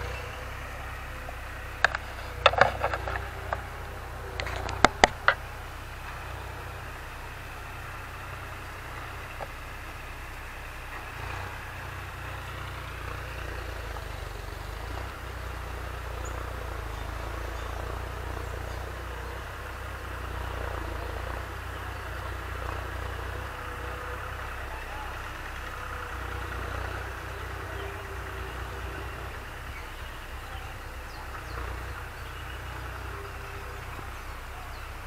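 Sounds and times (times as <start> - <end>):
engine running at low revs: 0.0 - 35.0.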